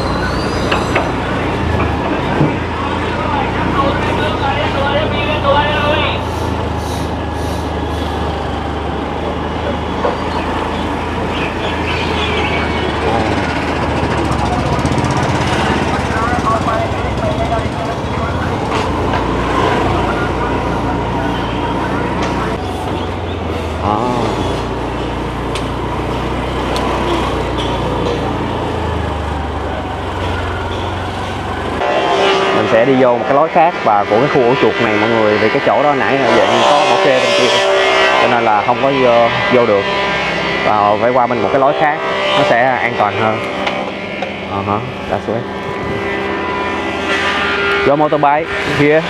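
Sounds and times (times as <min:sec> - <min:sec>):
street noise: 0:00.0 - 0:49.0
traffic rumble: 0:00.0 - 0:49.0.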